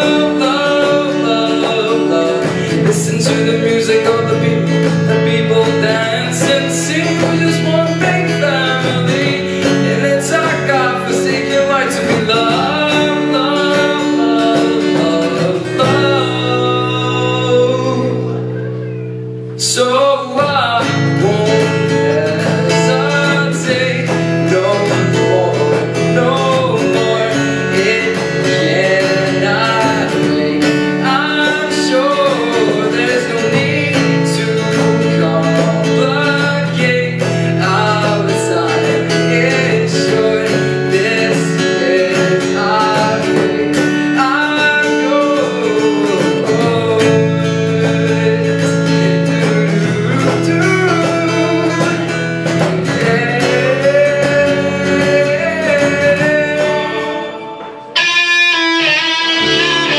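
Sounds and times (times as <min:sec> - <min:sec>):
person singing: 0:00.0 - 0:59.9
strummed acoustic guitar: 0:00.0 - 0:59.9.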